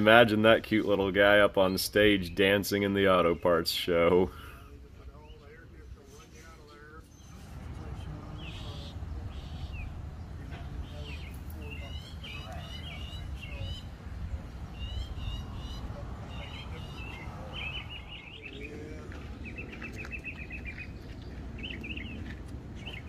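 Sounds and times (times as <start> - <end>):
small birds chirping: 1.1 - 23.0.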